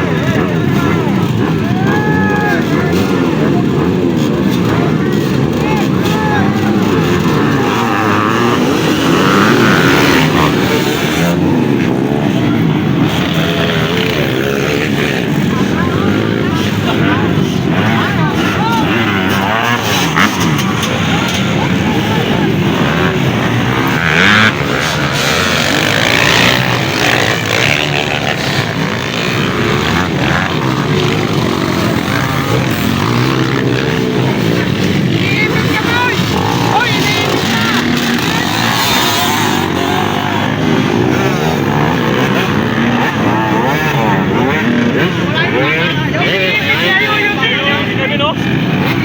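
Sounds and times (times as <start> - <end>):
dirt bike engines revving: 0.0 - 49.0.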